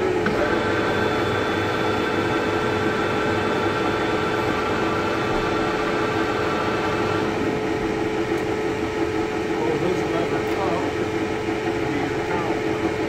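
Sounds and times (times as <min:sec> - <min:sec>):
lathe humming and whining: 0:00.0 - 0:13.0.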